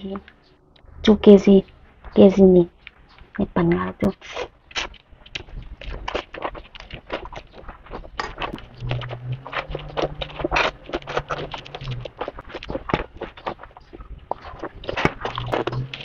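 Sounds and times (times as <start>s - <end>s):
low steady hum: 0.0s - 16.0s
crunchy chewing: 1.6s - 16.0s.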